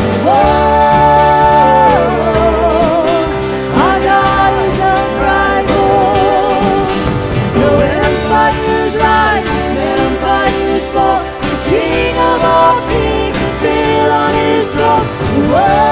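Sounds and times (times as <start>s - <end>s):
drums: 0.0s - 15.9s
keyboard: 0.0s - 15.9s
women singing: 0.0s - 15.9s.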